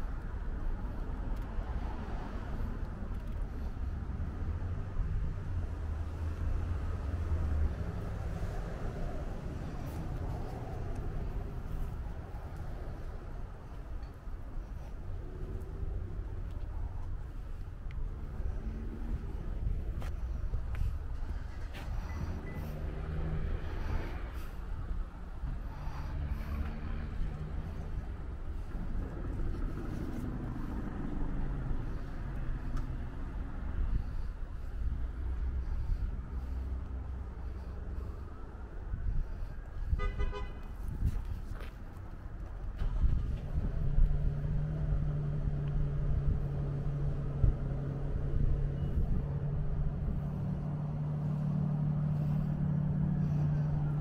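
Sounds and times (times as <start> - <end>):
motor vehicle hum: 0.0 - 54.0
road traffic rumble: 0.0 - 54.0.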